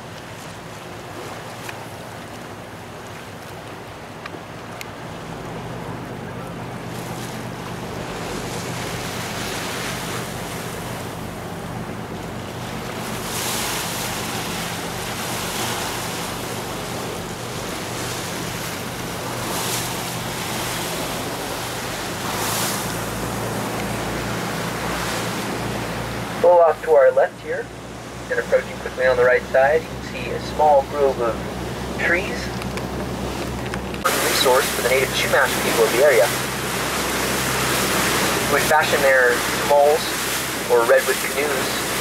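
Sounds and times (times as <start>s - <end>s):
boat engine running: 0.0s - 42.0s
wind and water rushing: 0.0s - 42.0s.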